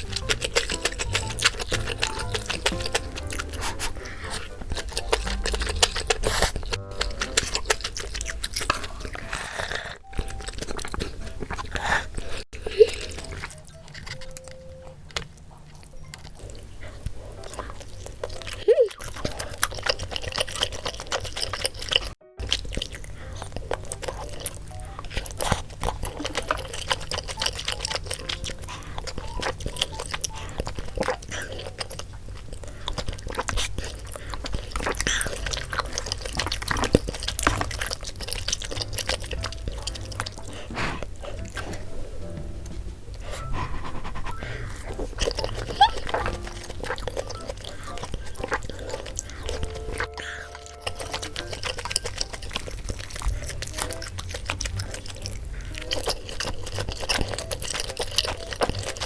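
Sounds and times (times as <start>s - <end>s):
light background music: 0.0s - 12.4s, 15.9s - 59.0s
crunching and chewing food: 0.0s - 59.0s.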